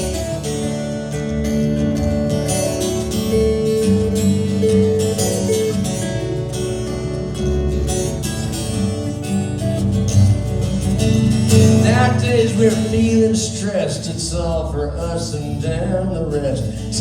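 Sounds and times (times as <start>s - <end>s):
held melody line: 0.0s - 17.0s
strummed acoustic guitar: 0.0s - 17.0s.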